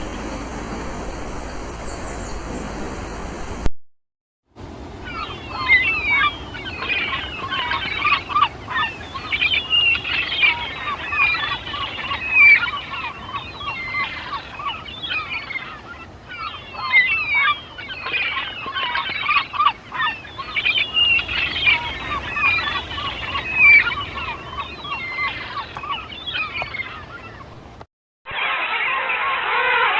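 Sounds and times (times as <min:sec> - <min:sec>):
flock of birds chirping: 0:04.8 - 0:29.9.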